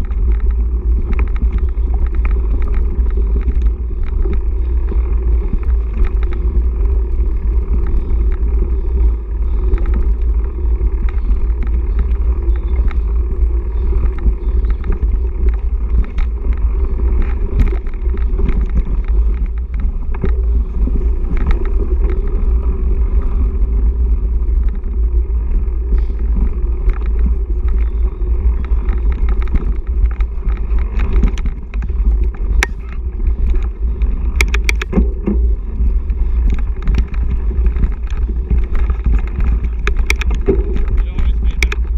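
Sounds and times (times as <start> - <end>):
bike clicks and rattles: 0.0 - 41.9
wind rumble on microphone: 0.0 - 41.9.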